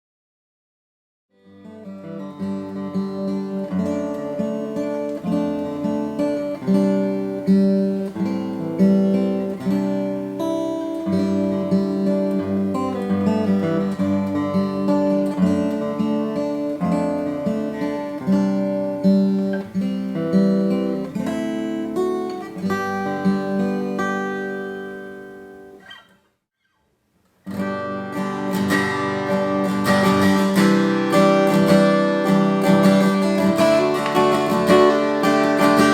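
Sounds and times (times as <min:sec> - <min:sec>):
strummed guitar chords: 0:01.4 - 0:25.9, 0:27.5 - 0:35.9
acoustic guitar picking: 0:01.4 - 0:26.2, 0:27.5 - 0:35.9.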